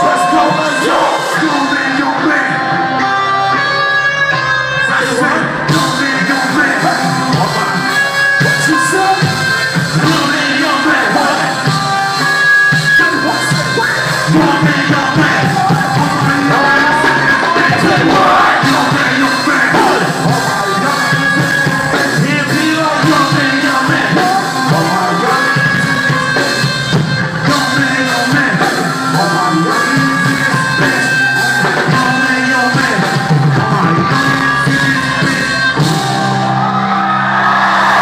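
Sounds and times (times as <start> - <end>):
person singing: 0.0 - 3.8, 4.7 - 36.4
loud hip-hop music: 0.0 - 36.9.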